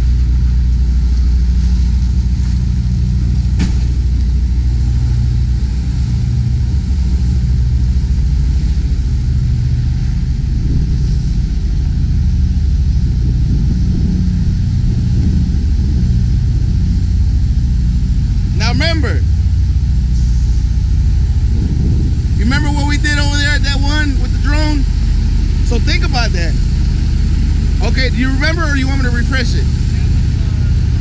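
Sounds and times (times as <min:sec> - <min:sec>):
diesel truck engine rumble: 0:00.0 - 0:31.0.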